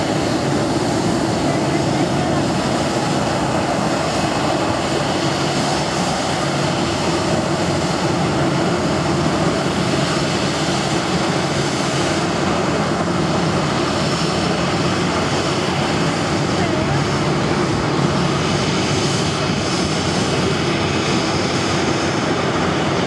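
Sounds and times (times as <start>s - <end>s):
jet engines running at taxi power: 0.0s - 23.0s.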